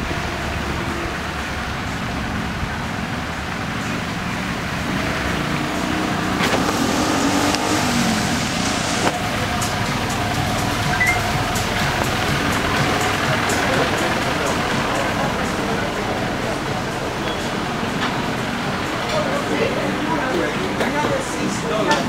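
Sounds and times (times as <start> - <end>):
vehicle engine running: 0.0 - 21.8.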